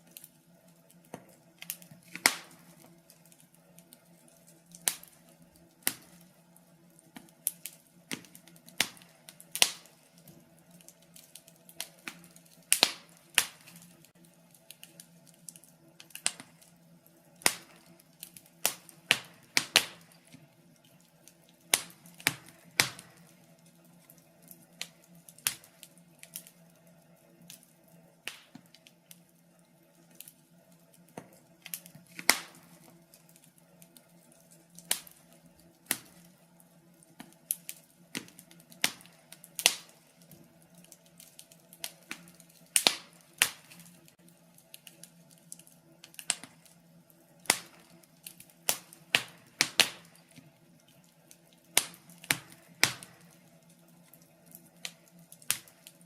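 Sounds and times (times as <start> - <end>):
logs crackling in fireplace: 0.0 - 56.0.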